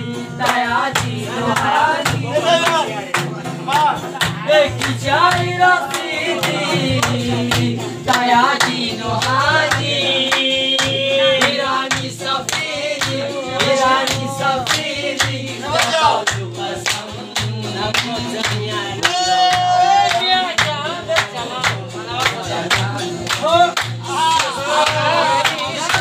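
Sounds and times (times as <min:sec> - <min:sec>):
men singing folk song: 0:00.0 - 0:26.0
rhythmic hand-clapping: 0:00.0 - 0:26.0.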